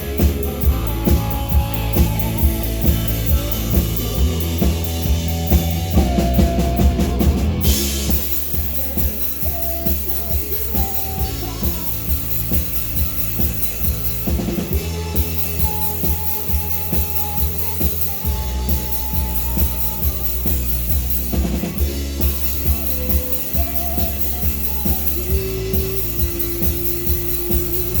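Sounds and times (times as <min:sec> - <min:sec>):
bass guitar: 0:00.0 - 0:28.0
drum kit beat: 0:00.0 - 0:28.0
guitar: 0:00.0 - 0:28.0.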